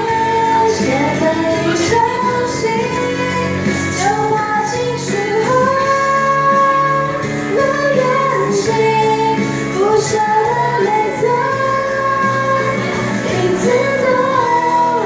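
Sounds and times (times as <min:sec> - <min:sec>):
guitar accompaniment: 0:00.0 - 0:15.0
woman singing a pop ballad: 0:00.0 - 0:15.0.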